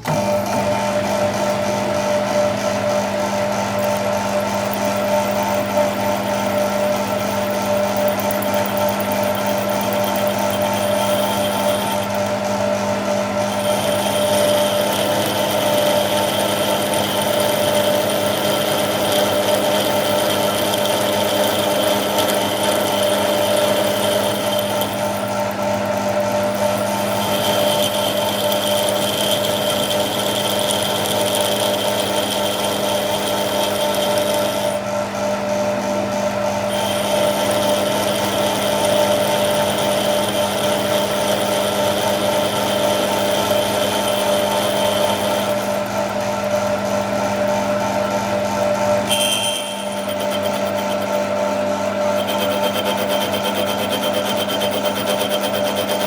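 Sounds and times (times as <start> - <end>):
high-pitched machine whine: 0.0 - 56.0
machine tool humming: 0.0 - 56.0.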